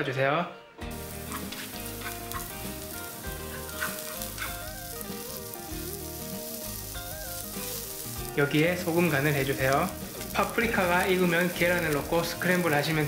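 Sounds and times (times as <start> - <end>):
onion sizzling in hot oil: 0.9 - 13.0.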